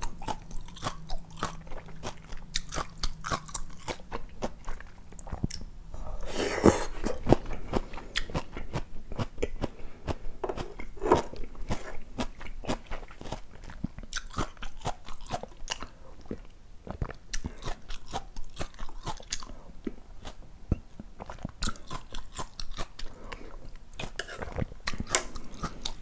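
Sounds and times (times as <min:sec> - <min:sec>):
food chewing crunches: 0:00.0 - 0:05.7, 0:06.6 - 0:20.4, 0:21.0 - 0:26.0.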